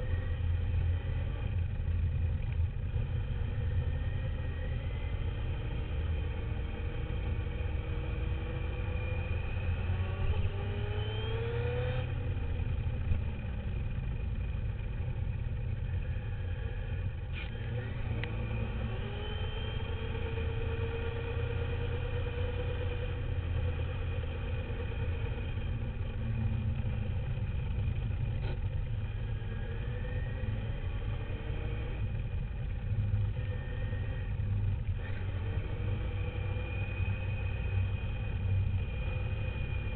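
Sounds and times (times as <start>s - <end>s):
rumble of wind and vibration: 0.0s - 39.9s.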